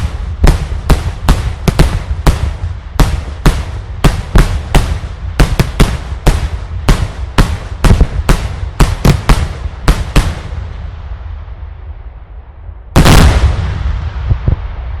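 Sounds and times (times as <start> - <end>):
fireworks exploding: 0.0 - 11.4, 13.0 - 15.0
rumble of echo: 0.0 - 15.0.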